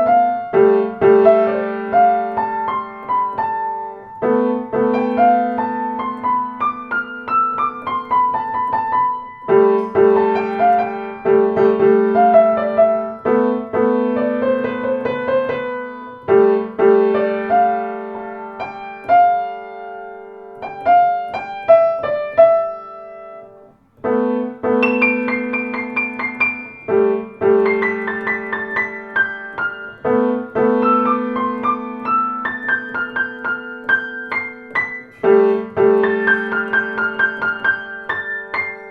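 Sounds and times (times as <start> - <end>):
grand piano playing: 0.0 - 38.9.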